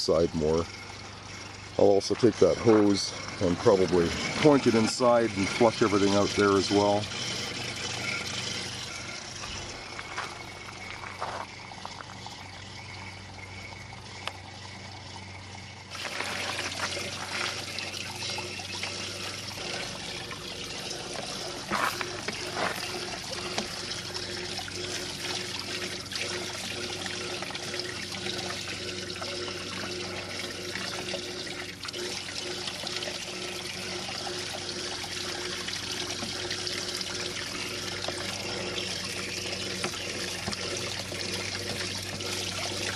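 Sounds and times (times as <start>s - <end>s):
liquid trickling and pouring: 0.0s - 42.9s
low pump hum: 0.0s - 42.9s.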